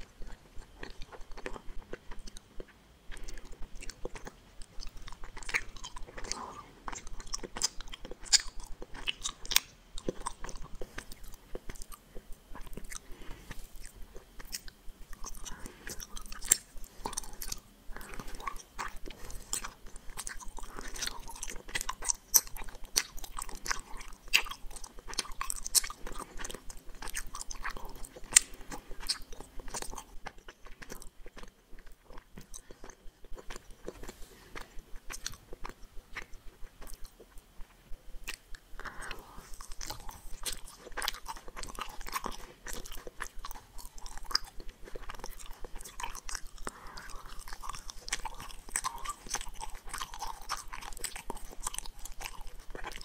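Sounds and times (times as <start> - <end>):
mouth chewing gummy candies: 0.0 - 53.0.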